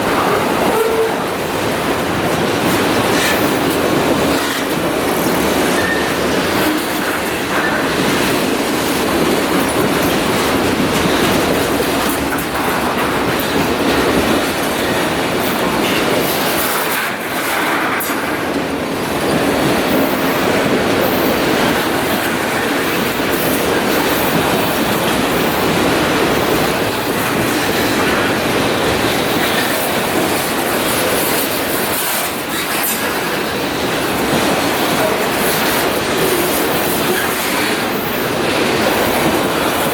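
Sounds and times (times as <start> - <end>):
freight train wheels rattling on rail: 0.0 - 39.9.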